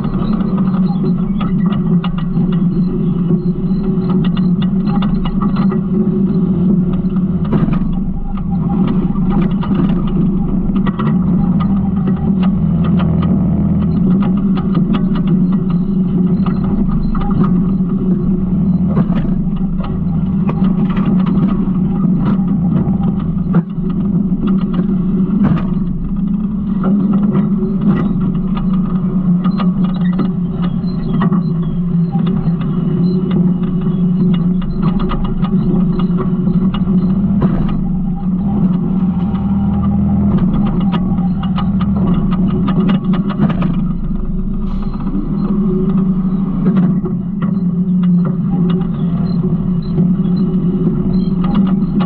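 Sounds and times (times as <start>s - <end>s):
garbage truck engine running: 0.0s - 52.0s
truck body clicks and rattles: 0.0s - 52.0s.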